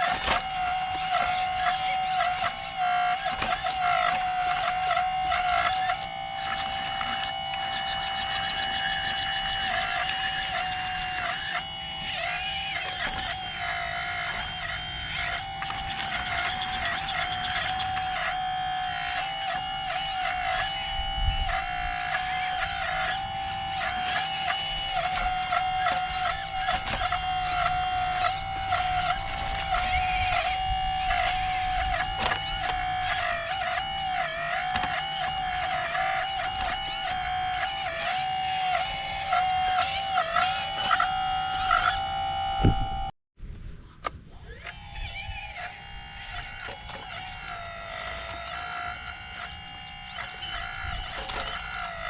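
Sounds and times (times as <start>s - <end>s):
electric hydraulic pump whining: 0.0s - 43.1s, 44.0s - 52.0s.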